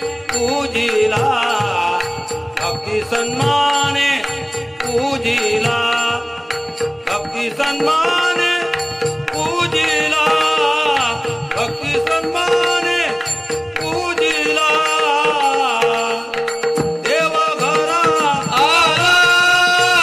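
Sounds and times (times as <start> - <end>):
man singing devotional melody: 0.0 - 20.0.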